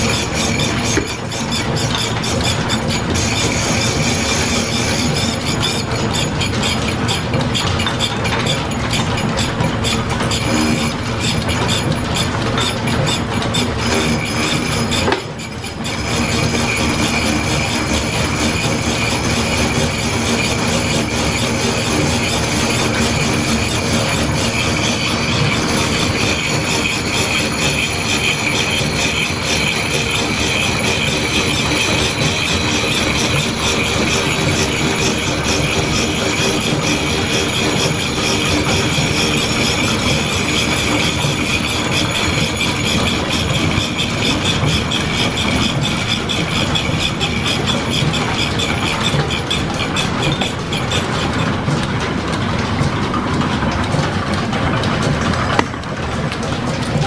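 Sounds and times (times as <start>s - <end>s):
saw blade squealing on metal: 0.0s - 51.7s
milling machine and belt clatter: 0.0s - 57.0s.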